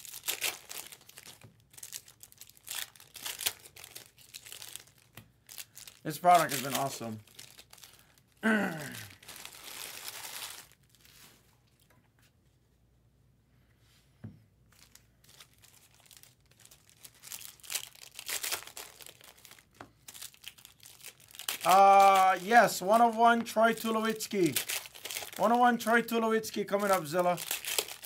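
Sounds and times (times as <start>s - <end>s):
card pack wrapper crinkling: 0.0s - 11.3s, 14.7s - 28.0s.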